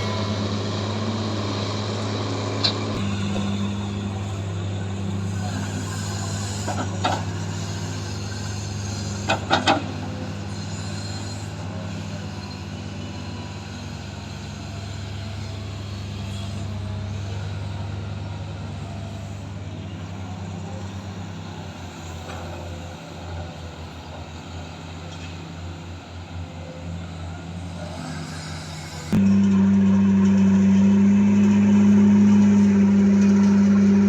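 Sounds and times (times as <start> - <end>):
heavy machinery diesel engine running: 0.0 - 34.0.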